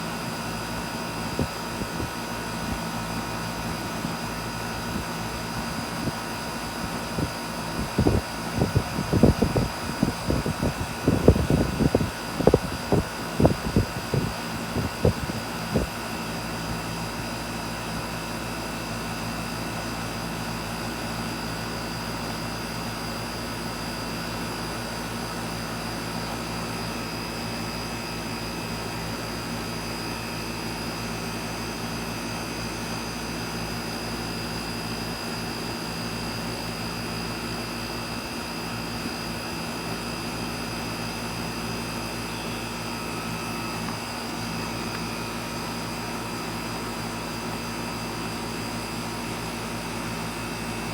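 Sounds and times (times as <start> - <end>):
air conditioner whirring: 0.0 - 50.9.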